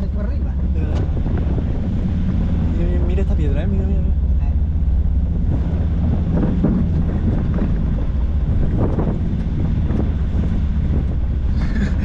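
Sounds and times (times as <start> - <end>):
vehicle engine idling: 0.0 - 12.0
wind buffeting microphone: 0.0 - 12.0.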